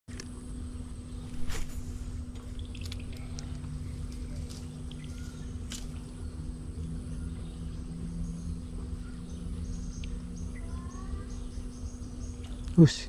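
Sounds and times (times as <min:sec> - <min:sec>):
low hum and rumble: 0:00.1 - 0:13.0
faint bird chirps: 0:02.5 - 0:13.0.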